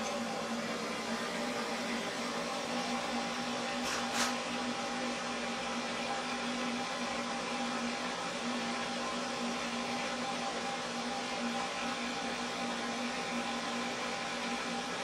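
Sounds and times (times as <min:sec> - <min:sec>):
dryer blowing with motor hum: 0:00.0 - 0:15.0.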